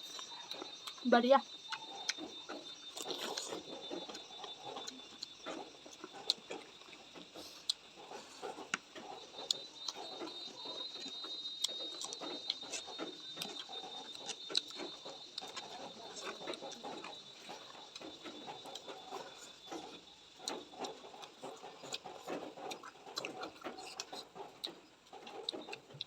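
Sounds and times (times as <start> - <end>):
faint steady high tone: 0.0 - 22.5
chewing and wet mouth noises: 0.0 - 26.0.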